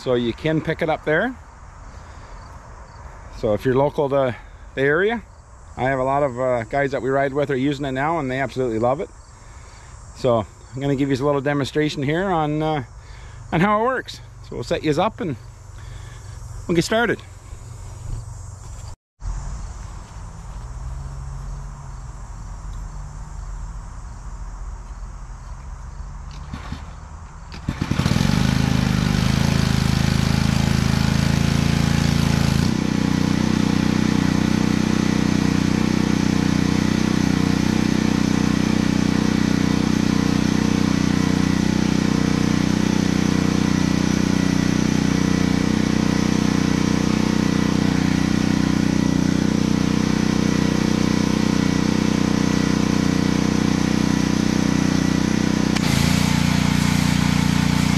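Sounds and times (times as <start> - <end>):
small gas engine running: 0.0 - 4.9, 5.8 - 18.9, 26.3 - 57.9.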